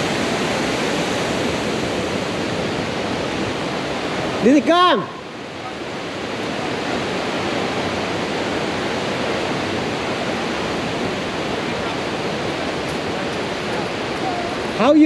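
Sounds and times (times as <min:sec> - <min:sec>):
river water rushing over rapids: 0:00.0 - 0:15.0.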